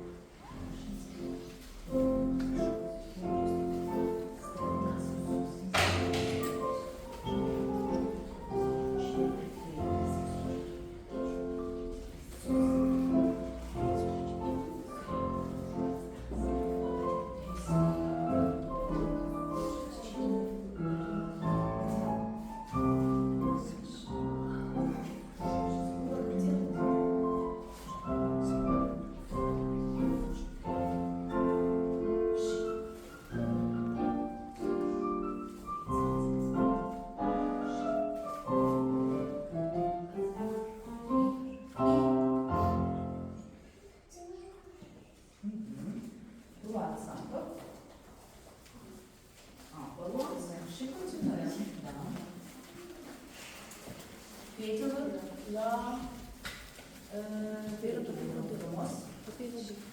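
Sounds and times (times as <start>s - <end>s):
classical piano music: 0.0s - 44.1s, 46.2s - 59.9s.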